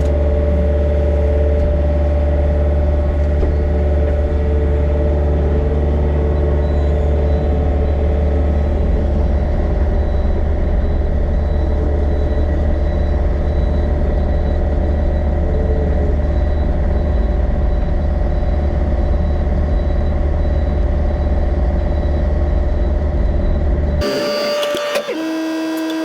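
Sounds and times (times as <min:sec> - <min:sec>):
diesel engine low rumble: 0:00.0 - 0:26.0
faint steady whine: 0:00.0 - 0:26.0.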